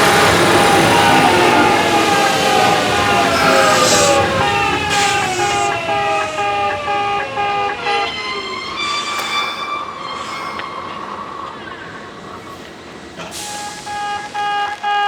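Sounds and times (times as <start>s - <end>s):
level crossing alarm beeping: 0.0s - 15.0s
train running past: 0.0s - 15.0s.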